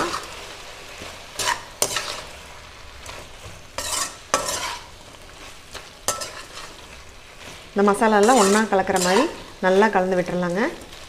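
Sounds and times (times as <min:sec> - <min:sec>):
vegetables sizzling in oil: 0:00.0 - 0:11.0
metal spatula scraping pan: 0:01.0 - 0:10.0.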